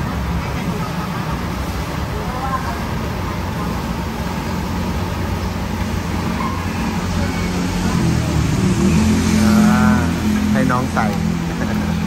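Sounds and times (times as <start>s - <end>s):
road traffic noise: 0.0s - 12.0s
vehicle engine humming: 0.0s - 12.0s.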